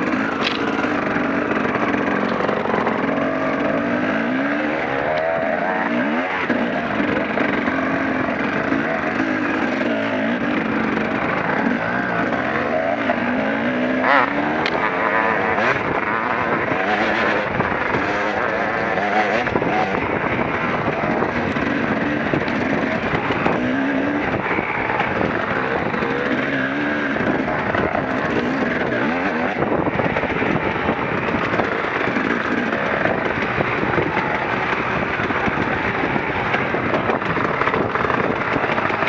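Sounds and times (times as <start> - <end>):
motorcycle engine revving: 0.0 - 39.0
steady rush of noise: 0.0 - 39.0.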